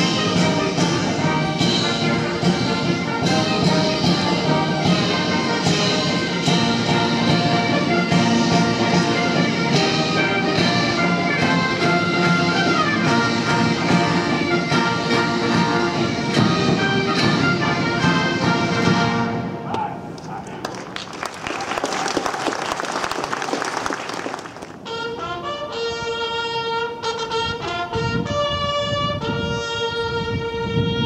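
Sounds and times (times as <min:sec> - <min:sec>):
military brass band march: 0:00.0 - 0:19.7, 0:23.1 - 0:31.0.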